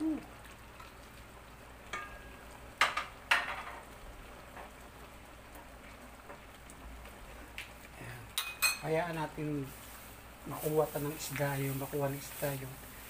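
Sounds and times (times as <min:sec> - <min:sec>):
coconut milk simmering crackle: 0:00.0 - 0:13.0.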